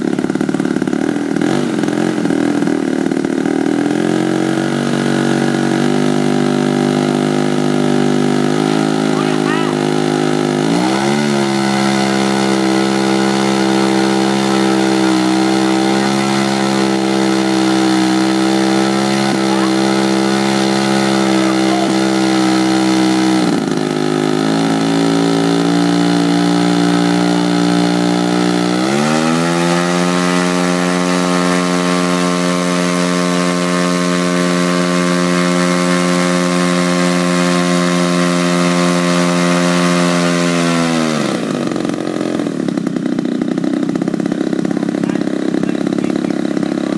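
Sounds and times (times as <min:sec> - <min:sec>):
model airplane engine running: 0:00.0 - 0:46.9.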